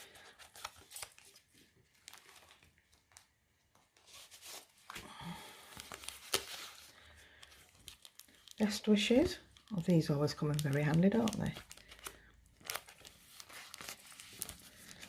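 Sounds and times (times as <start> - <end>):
packets rustling and crinkling: 0.0 - 15.0.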